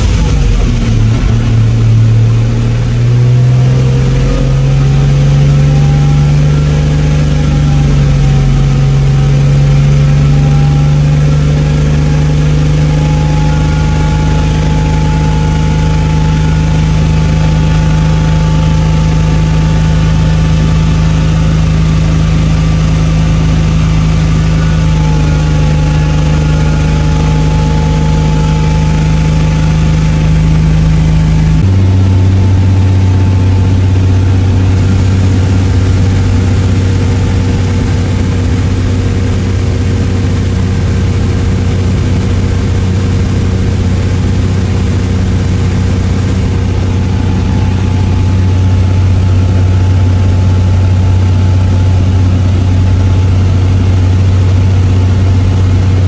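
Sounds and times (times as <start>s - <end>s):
car engine running loud: 0.0s - 56.0s.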